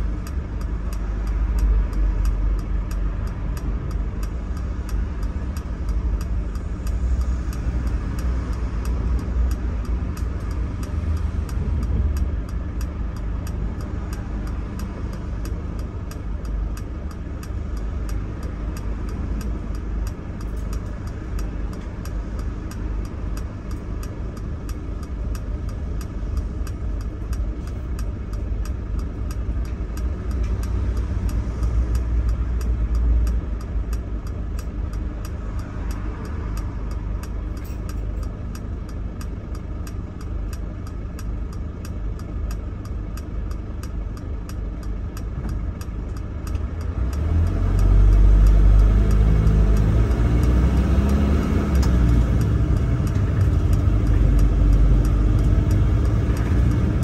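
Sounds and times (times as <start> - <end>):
bus engine idling and revving: 0.0 - 57.0.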